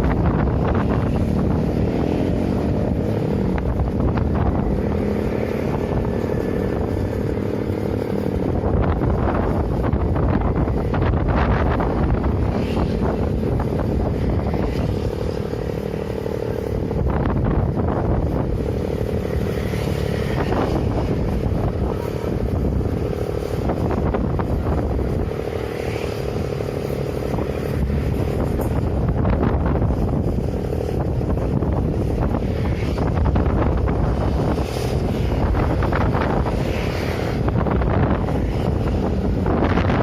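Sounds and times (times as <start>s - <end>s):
low engine hum: 0.0s - 40.0s
wind buffeting microphone: 0.0s - 40.0s.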